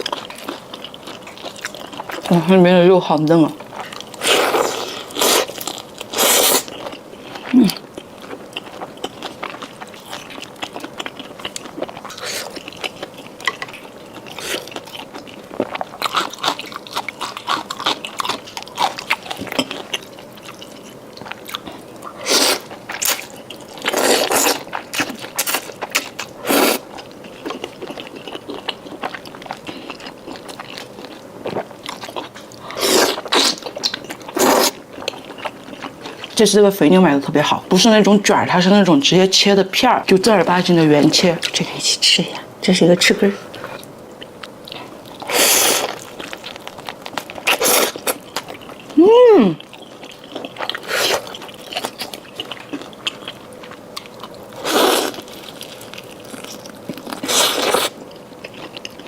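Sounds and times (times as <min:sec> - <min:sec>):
person chewing food: 0:00.0 - 0:02.5, 0:03.6 - 0:36.4, 0:43.3 - 0:59.0.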